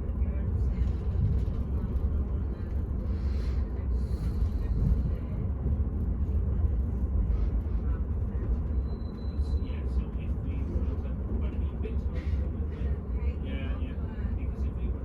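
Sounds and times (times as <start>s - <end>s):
diesel train rumble: 0.0s - 15.0s.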